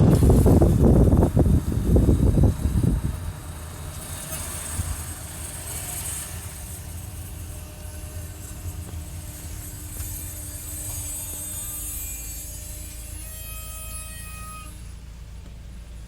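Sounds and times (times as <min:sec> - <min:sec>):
car rolling rumble: 0:00.0 - 0:13.2, 0:14.3 - 0:16.0.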